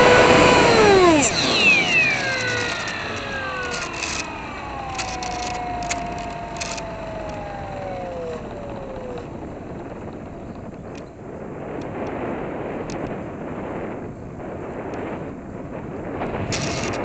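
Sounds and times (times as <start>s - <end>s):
electric motor and propeller whining: 0.0s - 13.9s, 16.1s - 17.0s
air rushing over gliding plane: 0.0s - 14.0s.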